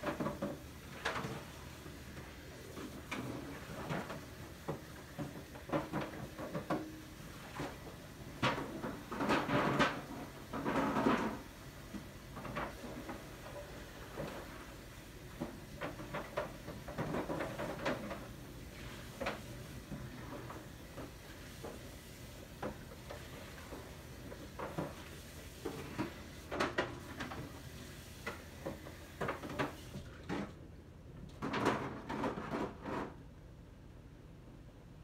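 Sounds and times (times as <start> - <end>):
kitchen items knocking and clattering: 0.0 - 27.6, 28.2 - 33.2.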